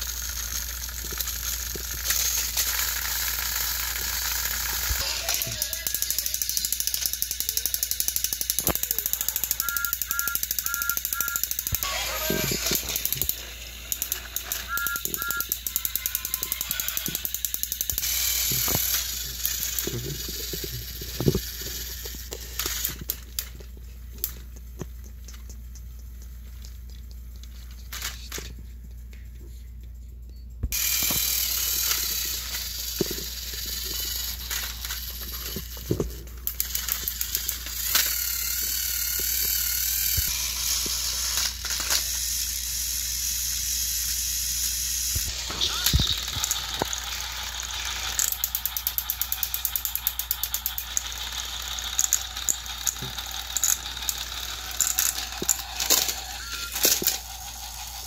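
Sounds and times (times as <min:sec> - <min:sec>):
wheels rattling on plastic track: 0:00.0 - 0:23.5, 0:30.7 - 0:58.0
toy train motors whirring: 0:00.0 - 0:29.6, 0:30.7 - 0:58.0.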